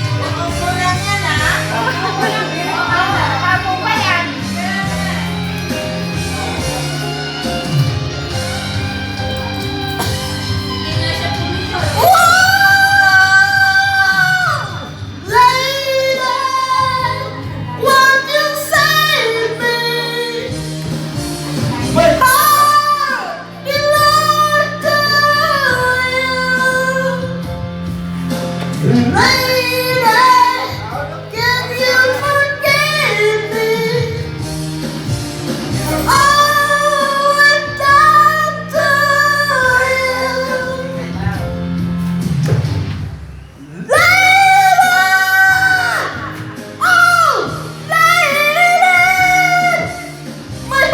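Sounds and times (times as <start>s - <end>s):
song with singing: 0.0s - 50.9s.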